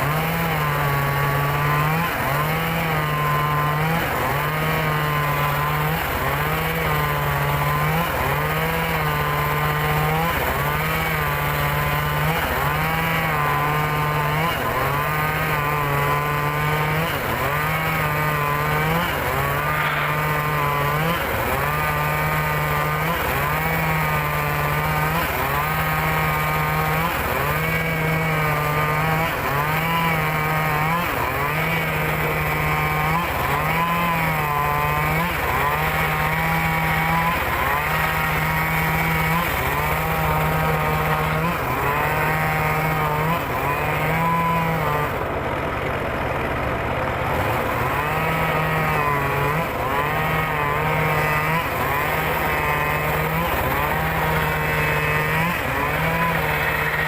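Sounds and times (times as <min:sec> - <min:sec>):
circular saw ripping timber: 0:00.0 - 0:57.0.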